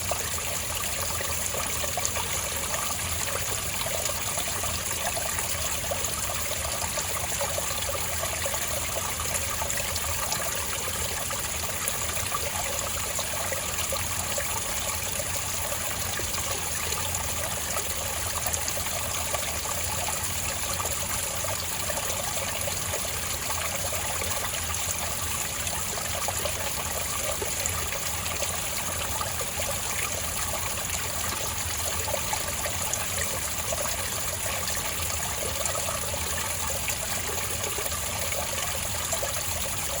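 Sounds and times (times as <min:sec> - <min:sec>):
water trickling over rocks: 0:00.0 - 0:40.0.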